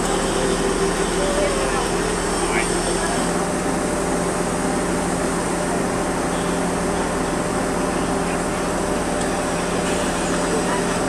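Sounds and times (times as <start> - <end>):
train noise hiss and hum: 0.0 - 11.0.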